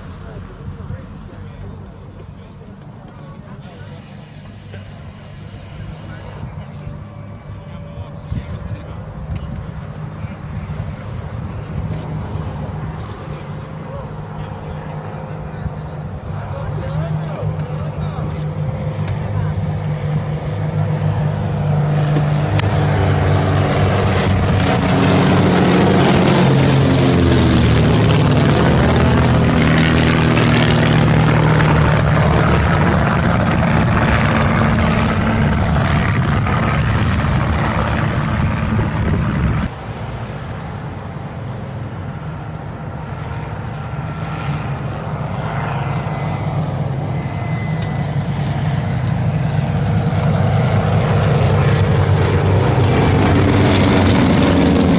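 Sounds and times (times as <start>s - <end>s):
propeller aircraft flying past: 0.0s - 54.9s.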